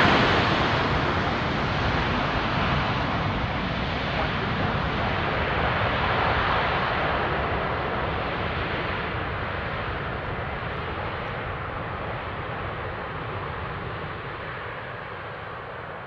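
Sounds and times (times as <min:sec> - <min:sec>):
jet airliner engines rushing: 0:00.0 - 0:16.0.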